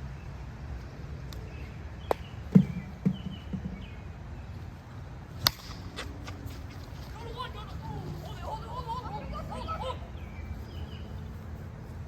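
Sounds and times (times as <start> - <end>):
outdoor wind noise: 0.0 - 12.0.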